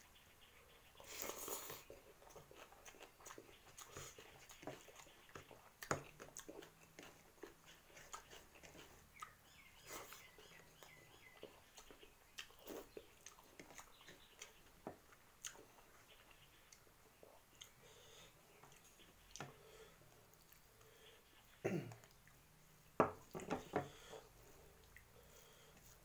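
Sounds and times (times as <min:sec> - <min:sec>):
chewing and mouth sounds: 0:01.0 - 0:17.8, 0:20.1 - 0:22.4, 0:23.2 - 0:25.2.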